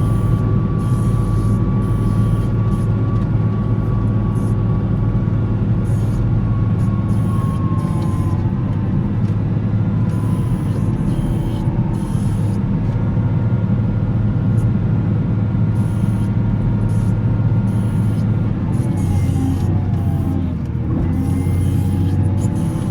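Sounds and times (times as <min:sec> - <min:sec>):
wheel loader diesel engine: 0:00.0 - 0:22.9.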